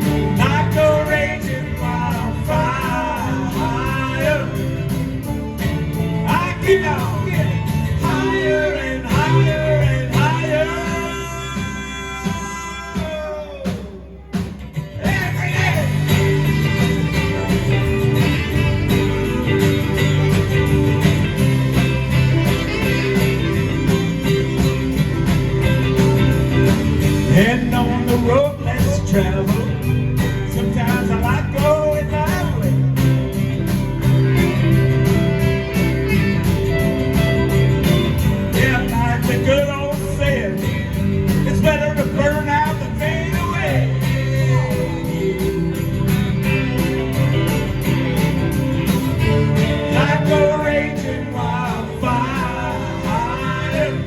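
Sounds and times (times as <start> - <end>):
live rock country band: 0.0 - 54.0
sliding lead guitar line: 0.0 - 54.0.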